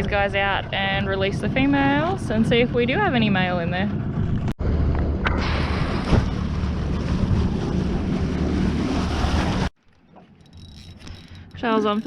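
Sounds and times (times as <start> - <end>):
strong wind buffeting microphone: 0.0 - 9.7.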